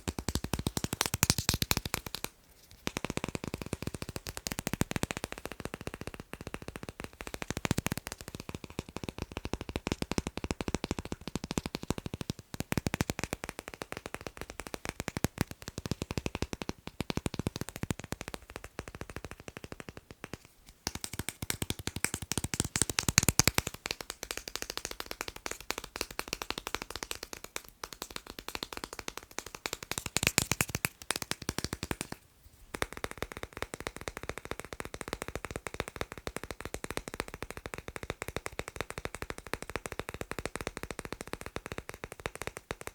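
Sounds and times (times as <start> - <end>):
fast tapping on magnets: 0.0 - 42.9.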